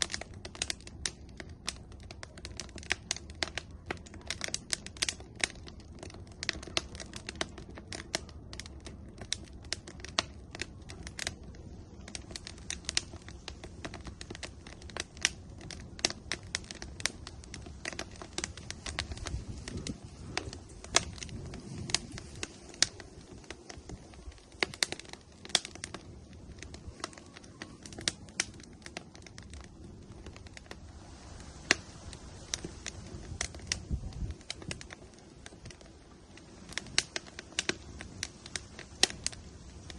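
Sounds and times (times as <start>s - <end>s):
firewood crackling and popping: 0.0s - 39.9s
low steady rumble: 0.0s - 39.9s.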